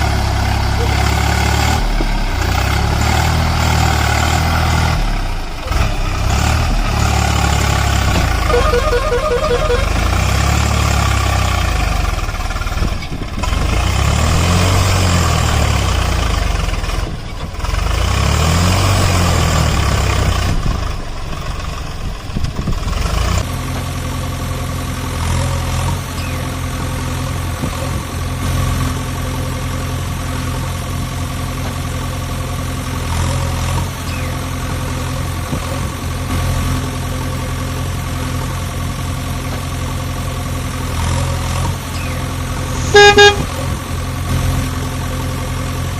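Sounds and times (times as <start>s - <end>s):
heavy diesel engine revving: 0.0s - 45.9s.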